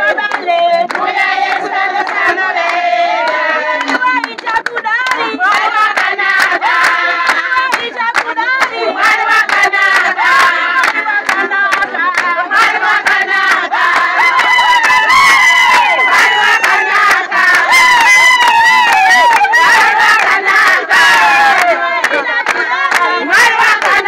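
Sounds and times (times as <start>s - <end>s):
crowd singing: 0.0s - 24.0s
hand clapping: 0.2s - 20.8s, 21.5s - 24.0s.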